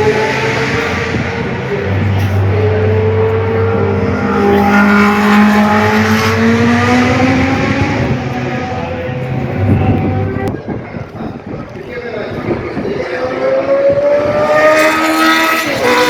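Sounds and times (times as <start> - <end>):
racing car engine at high revs: 0.0 - 10.6, 12.4 - 16.0.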